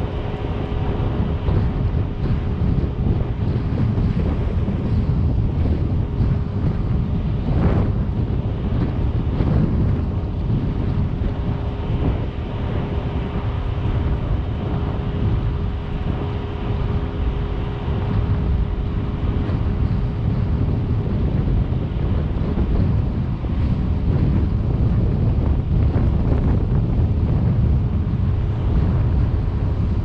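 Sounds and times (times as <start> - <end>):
faint steady hum: 0.0 - 30.0
vehicle running noise: 0.0 - 30.0
wind buffeting microphone: 0.0 - 30.0.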